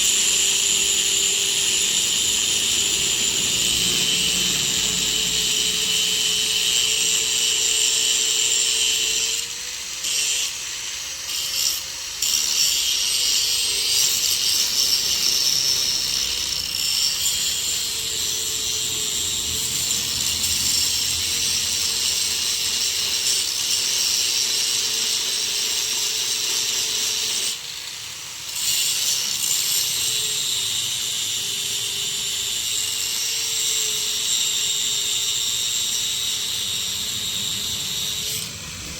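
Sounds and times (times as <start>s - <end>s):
angle grinder grinding metal: 0.0s - 38.9s.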